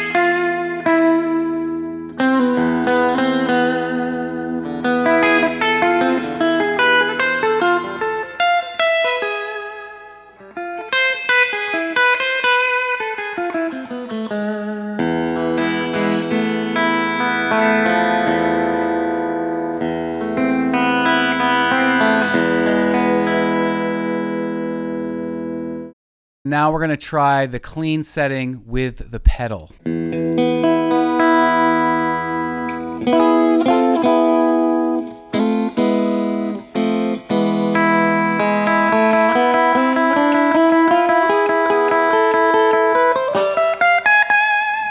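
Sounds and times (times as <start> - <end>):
clean electric guitar with reverb: 0.0 - 25.9, 28.8 - 44.9.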